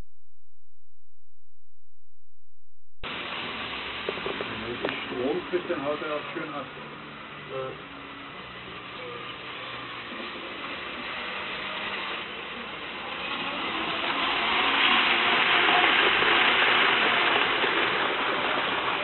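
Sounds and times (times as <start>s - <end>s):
model train whirring: 3.4s - 19.0s.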